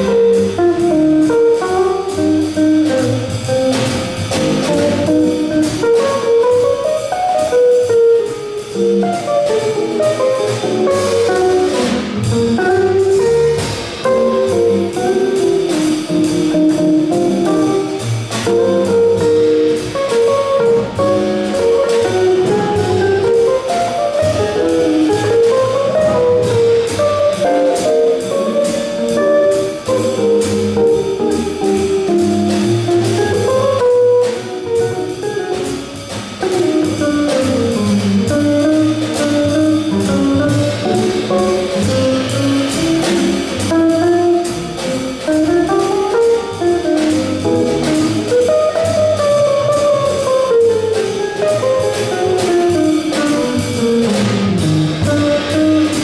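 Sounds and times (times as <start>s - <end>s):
drum kit cymbals: 0.0s - 56.0s
upright bass: 0.0s - 56.0s.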